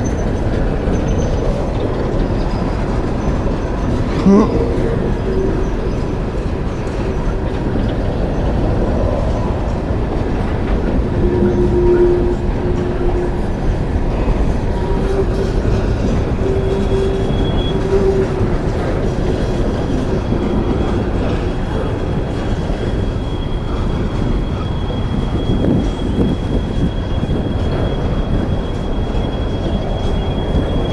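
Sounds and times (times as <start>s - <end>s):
train cars rumbling on track: 0.0s - 30.9s.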